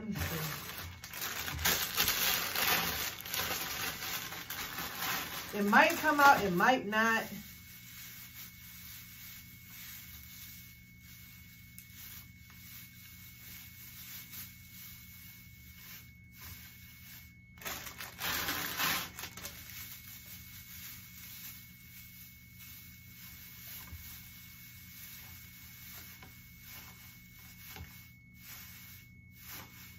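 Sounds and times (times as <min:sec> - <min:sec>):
shredded paper grass crinkling: 0:00.0 - 0:29.9.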